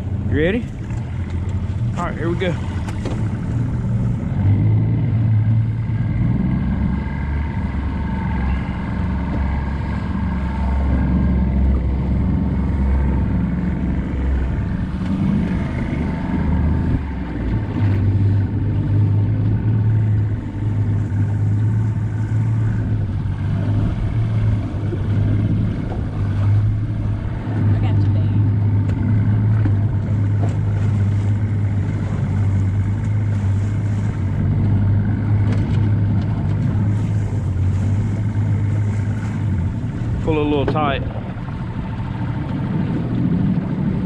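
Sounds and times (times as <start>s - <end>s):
outboard motor running: 0.0s - 44.0s.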